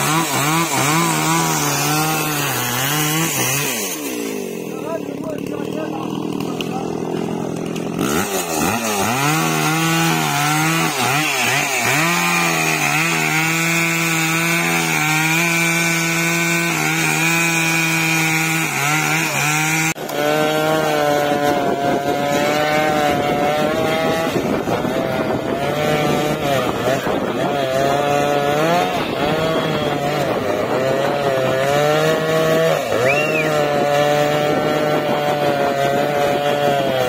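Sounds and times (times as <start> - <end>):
chainsaw cutting wood: 0.0 - 37.0
chainsaw engine wavering pitch: 0.0 - 37.0.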